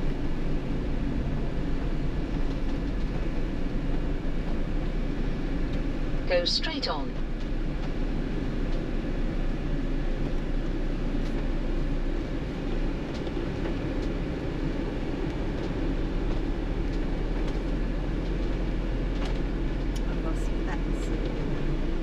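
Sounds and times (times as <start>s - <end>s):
engine and road noise: 0.0s - 22.0s.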